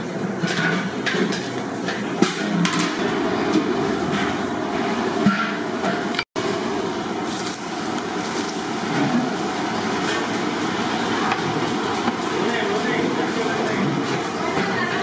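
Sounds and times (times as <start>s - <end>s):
gas stove burner rushing: 2.0s - 15.0s.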